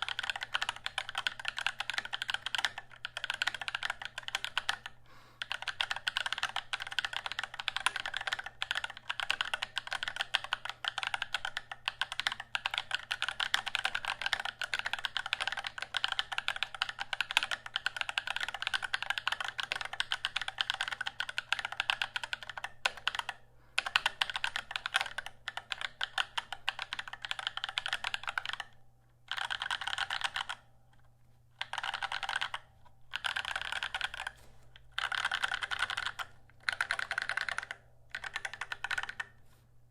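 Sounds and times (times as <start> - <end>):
fast mechanical keyboard typing: 0.0 - 28.7, 29.3 - 30.6, 31.6 - 39.3.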